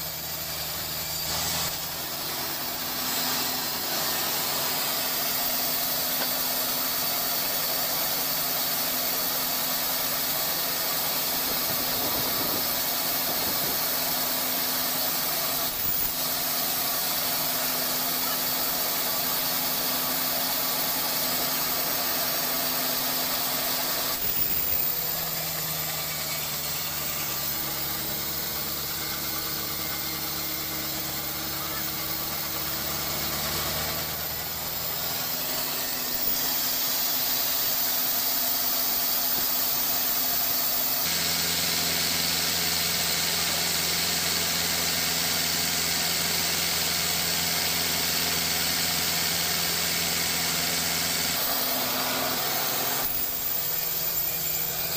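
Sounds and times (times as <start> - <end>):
sawmill machinery humming: 0.0 - 54.9.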